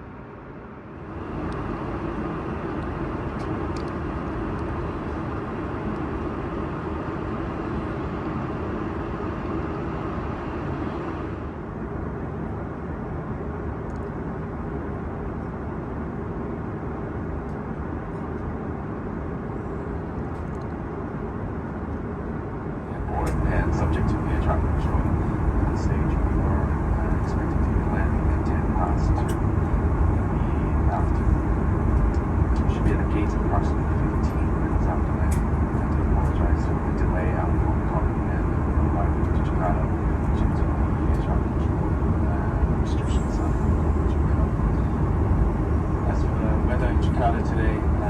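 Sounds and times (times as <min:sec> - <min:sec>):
airliner cabin engine rush: 0:00.0 - 0:48.0.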